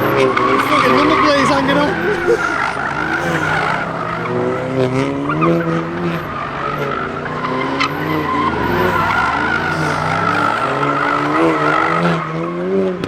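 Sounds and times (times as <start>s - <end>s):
tyres squealing: 0.0s - 12.3s
car engine revving: 0.0s - 13.0s.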